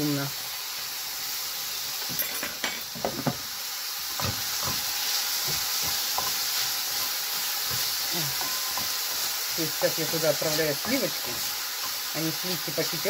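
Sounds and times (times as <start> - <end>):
pork sizzling in a pan: 0.0 - 13.0.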